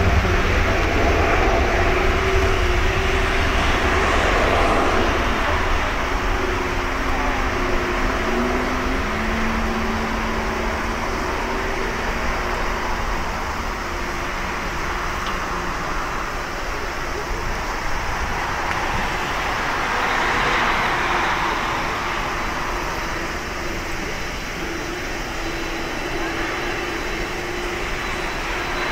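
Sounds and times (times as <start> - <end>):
jet engines humming roar: 0.0 - 28.9.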